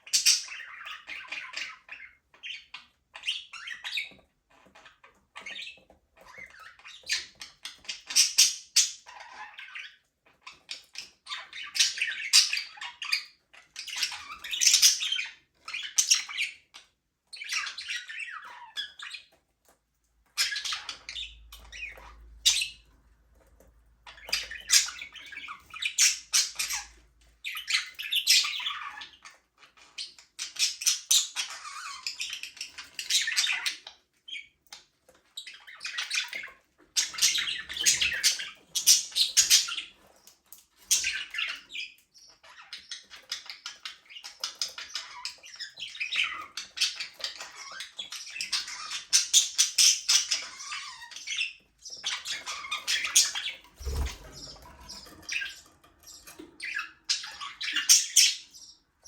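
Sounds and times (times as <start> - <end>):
budgerigars chirping: 0.0 - 16.6, 20.4 - 22.8, 24.0 - 34.6, 35.4 - 40.2, 40.9 - 58.9.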